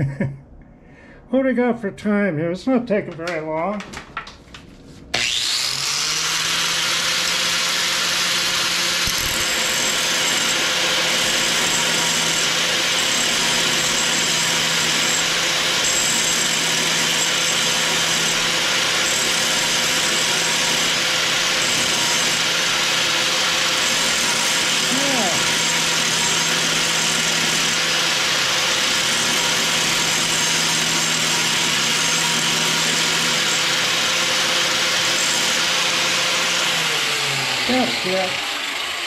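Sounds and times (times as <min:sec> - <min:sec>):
angle grinder running: 0:05.1 - 0:39.0
grinding disc on metal: 0:05.2 - 0:39.0.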